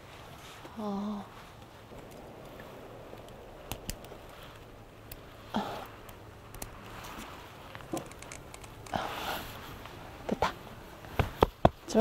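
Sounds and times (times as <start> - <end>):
light clicks and handling noise: 1.6 - 12.0.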